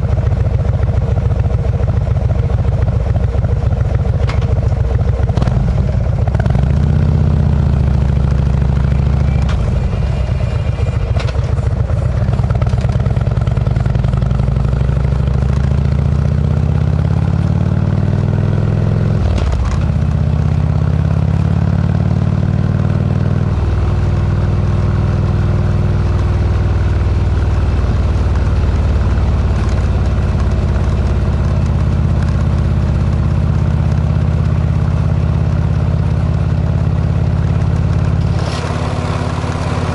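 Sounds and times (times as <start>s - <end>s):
motorcycle engine with deep exhaust: 0.0s - 39.9s.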